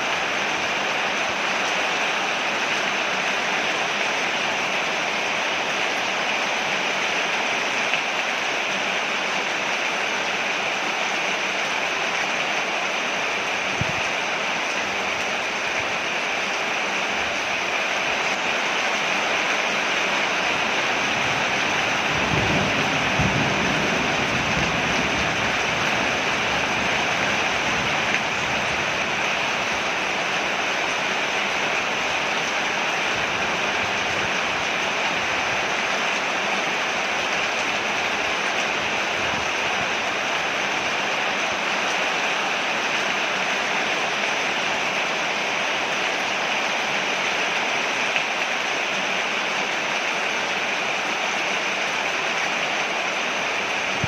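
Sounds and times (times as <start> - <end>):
rain falling on porch: 0.0 - 54.0.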